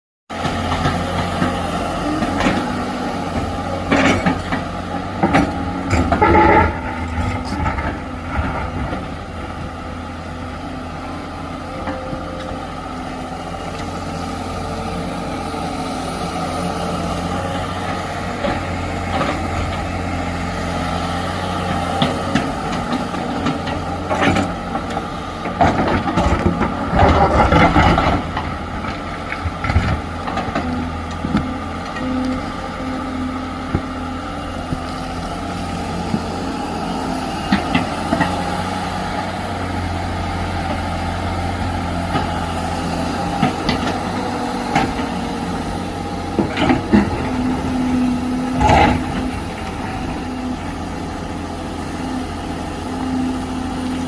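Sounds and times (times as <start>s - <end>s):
excavator diesel engine running: 0.3s - 54.0s.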